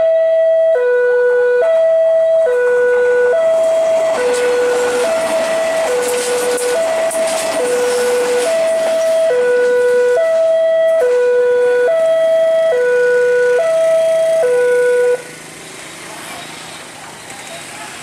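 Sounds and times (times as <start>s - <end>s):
level crossing two-tone alarm: 0.0s - 15.3s.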